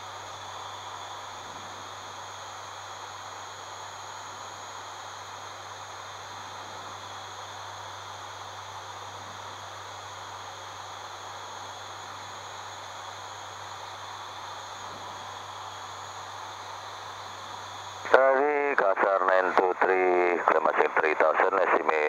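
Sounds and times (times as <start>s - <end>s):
faint high whines: 0.0s - 22.0s.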